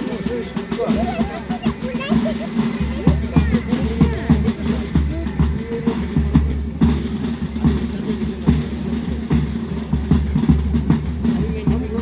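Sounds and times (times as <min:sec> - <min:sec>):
marching drum beat: 0:00.0 - 0:12.0
military band playing: 0:00.0 - 0:12.0.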